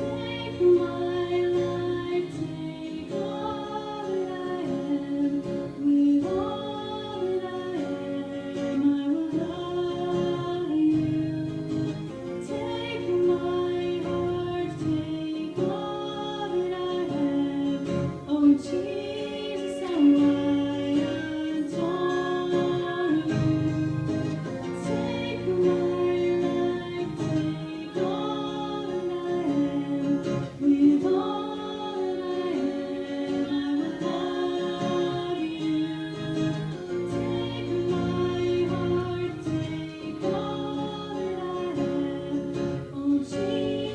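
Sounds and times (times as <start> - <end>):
instrumental accompaniment: 0.0 - 43.9
women singing worship song: 0.0 - 43.9.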